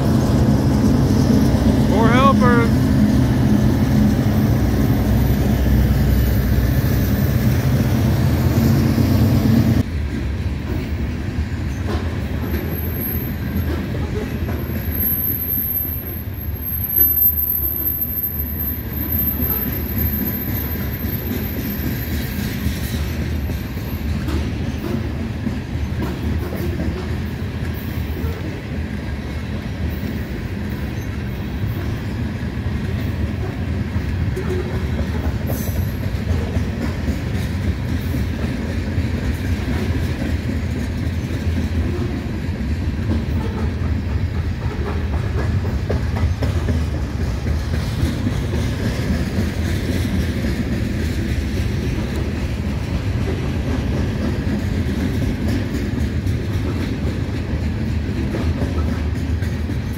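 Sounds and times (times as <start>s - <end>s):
diesel locomotives passing: 0.0s - 59.9s
freight cars rumbling over rails: 0.0s - 59.9s.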